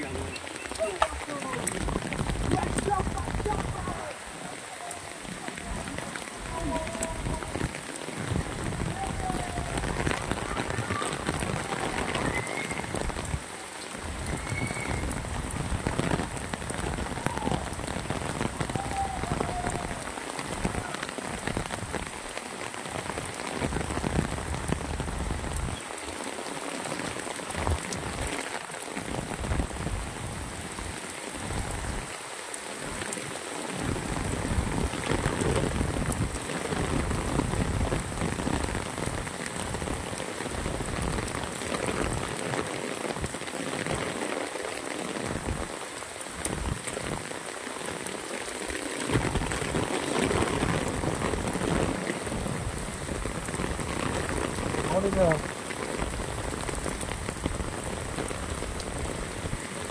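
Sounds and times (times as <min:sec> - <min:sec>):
heavy rain on paving and leaves: 0:00.0 - 0:59.9.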